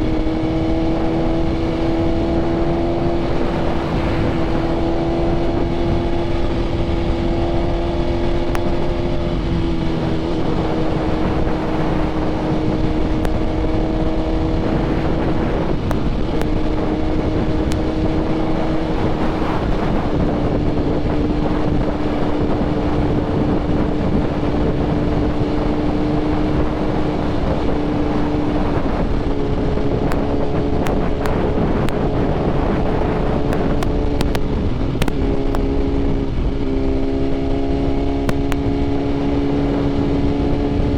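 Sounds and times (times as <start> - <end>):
motorcycle engine cruising: 0.0 - 40.9
wind noise on microphone: 0.0 - 40.9.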